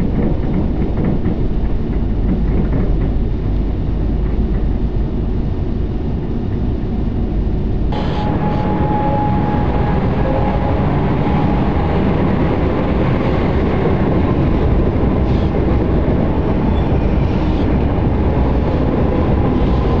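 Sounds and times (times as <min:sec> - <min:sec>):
train rumbling on rails: 0:00.0 - 0:20.0
faint steady whine: 0:03.4 - 0:20.0.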